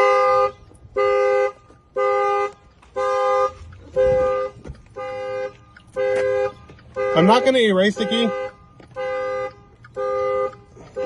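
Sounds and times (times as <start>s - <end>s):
car alarm horn honking: 0.0s - 11.0s.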